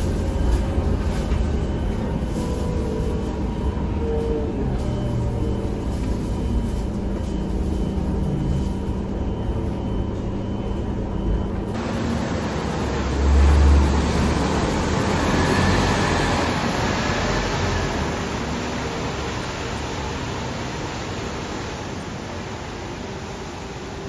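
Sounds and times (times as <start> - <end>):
bus engine hum inside cabin: 0.0 - 24.0
bus engine rumbling pulling away: 0.0 - 24.0.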